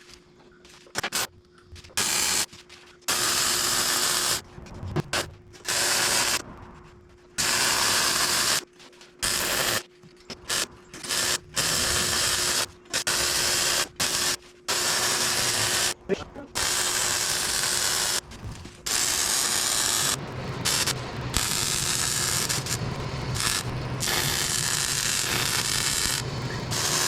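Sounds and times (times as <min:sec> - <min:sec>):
hissing crackling welding tool: 0:01.9 - 0:02.5, 0:03.1 - 0:27.0
steady low hum: 0:03.8 - 0:09.2, 0:09.9 - 0:27.0.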